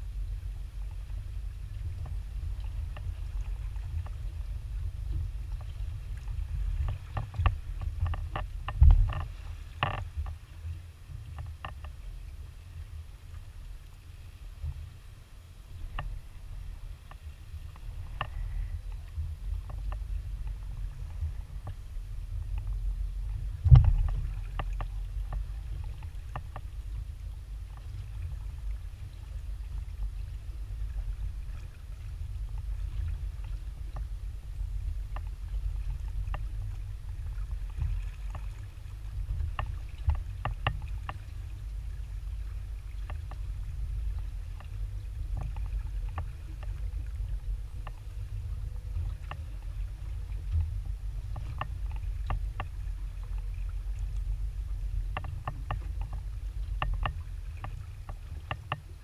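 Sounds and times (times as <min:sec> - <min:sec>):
wind and water against hull: 0:00.0 - 0:59.0.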